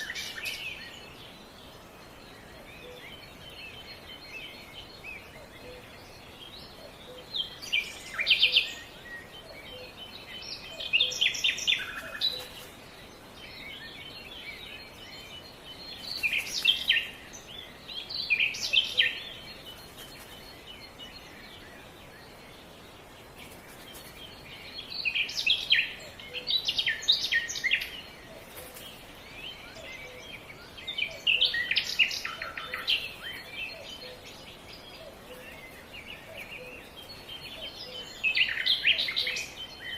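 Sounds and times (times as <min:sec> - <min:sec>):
faint outdoor hiss: 0:00.0 - 0:39.9
songbird chirping: 0:00.0 - 0:39.9.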